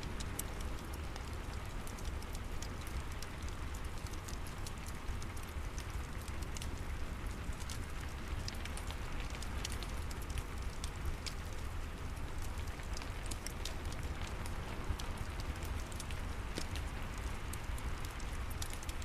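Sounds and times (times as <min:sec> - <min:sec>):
steady rain falling: 0:00.0 - 0:19.0
wood fire crackling: 0:00.0 - 0:19.0.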